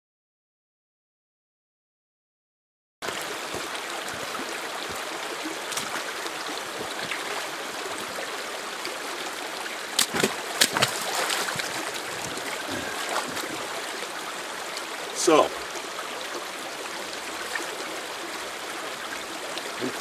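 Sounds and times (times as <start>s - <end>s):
creek water running: 3.0s - 20.0s.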